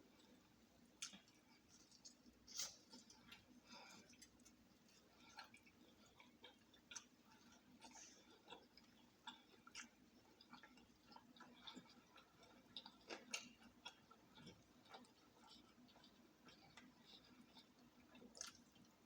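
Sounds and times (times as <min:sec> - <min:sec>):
low room hum: 0:00.0 - 0:19.0
person chewing food: 0:00.0 - 0:19.0.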